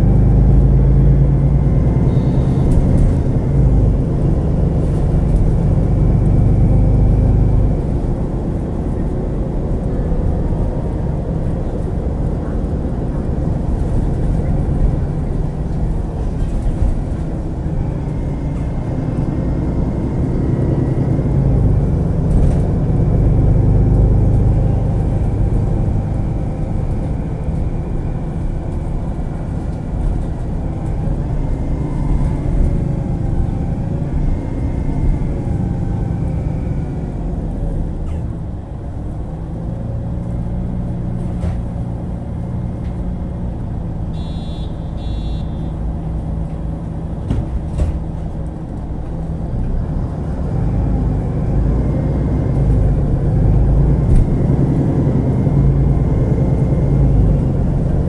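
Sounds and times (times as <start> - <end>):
bus engine rumble with drivetrain whine: 0.0 - 58.0.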